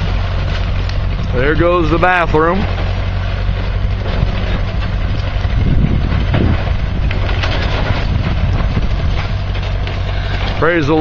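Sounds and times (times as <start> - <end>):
low motor rumble: 0.0 - 11.0
wind buffeting the microphone: 0.0 - 11.0.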